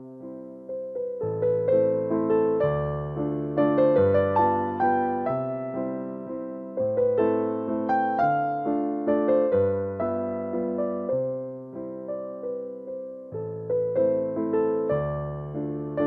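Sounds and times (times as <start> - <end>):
piano melody with bass line: 0.0 - 16.0.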